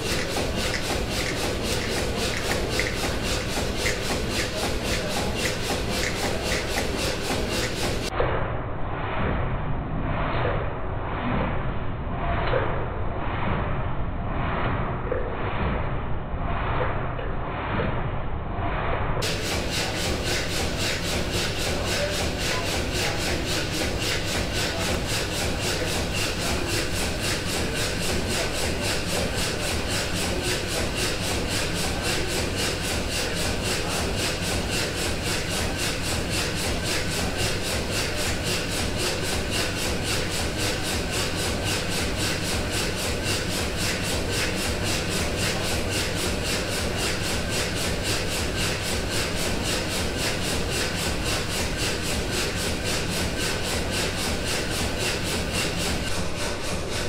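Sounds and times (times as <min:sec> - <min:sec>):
steam engine churning: 0:00.0 - 0:08.1, 0:19.2 - 0:57.0.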